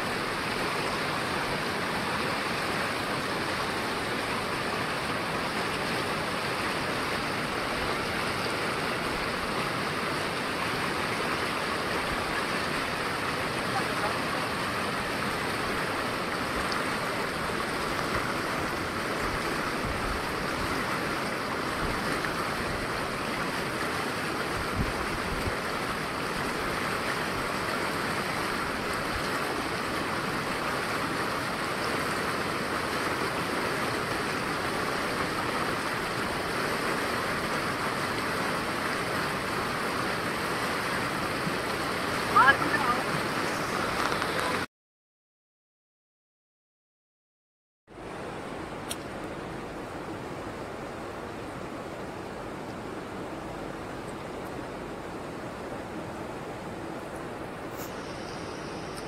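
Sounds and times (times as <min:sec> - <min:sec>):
river rushing over rocks: 0:00.0 - 0:44.7, 0:48.0 - 0:59.0.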